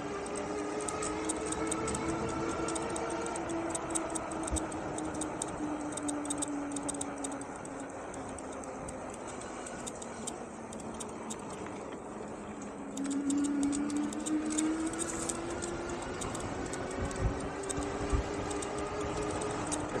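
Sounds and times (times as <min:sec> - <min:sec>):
electric hub motor whining: 0:00.0 - 0:20.0
rapid light ticking: 0:00.0 - 0:20.0.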